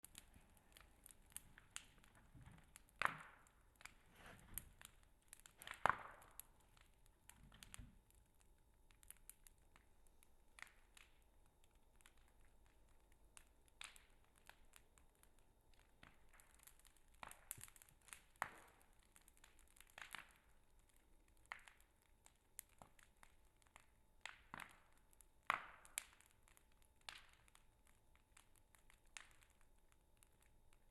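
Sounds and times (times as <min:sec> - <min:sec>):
campfire crackling and popping: 0:00.0 - 0:30.9.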